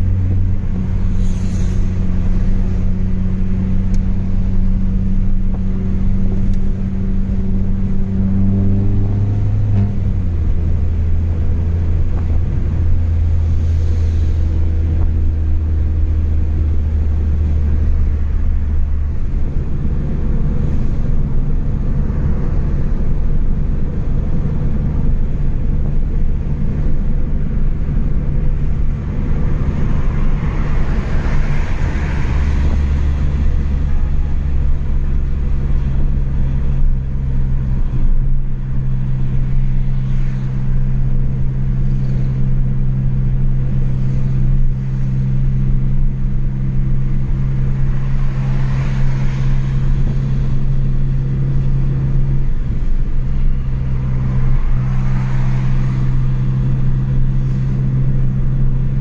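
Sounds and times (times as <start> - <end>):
car engine droning: 0.0 - 59.0
road noise: 0.0 - 59.0.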